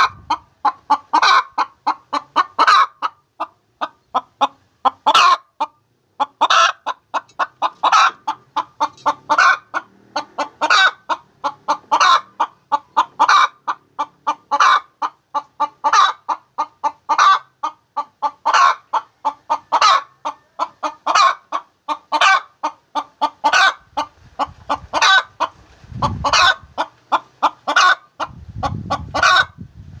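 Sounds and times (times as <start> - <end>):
hen cackling: 0.0 - 29.6.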